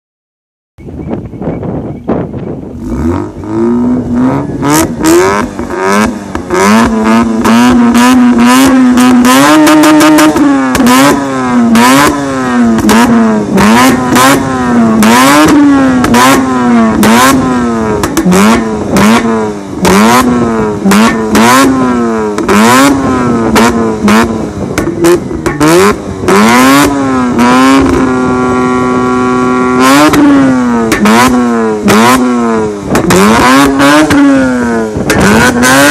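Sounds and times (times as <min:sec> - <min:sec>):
exhaust pops and crackles: 0:02.1 - 0:35.9
rotary engine revving: 0:02.8 - 0:35.9.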